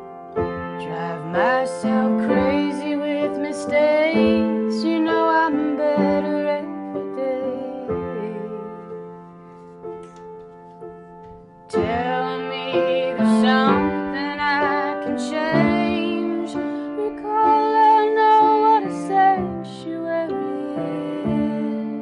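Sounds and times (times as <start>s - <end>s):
woman singing with vibrato: 0.8s - 8.6s, 11.8s - 22.0s.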